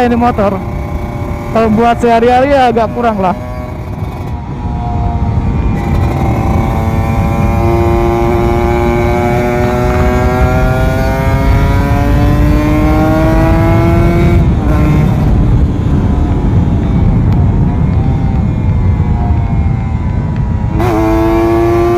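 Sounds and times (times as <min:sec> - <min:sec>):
motorcycle engine accelerating: 0:00.0 - 0:21.9
wind rush: 0:00.0 - 0:21.9.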